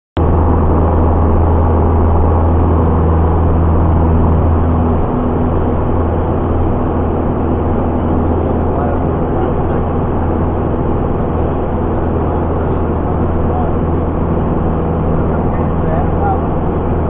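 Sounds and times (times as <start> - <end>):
propeller plane engine droning: 0.2 - 17.0.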